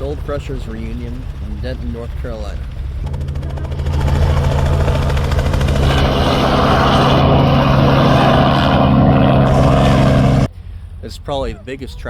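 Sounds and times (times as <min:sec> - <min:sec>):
helicopter engine and rotor chop: 0:00.0 - 0:10.5
rotor wash rushing: 0:00.0 - 0:10.5.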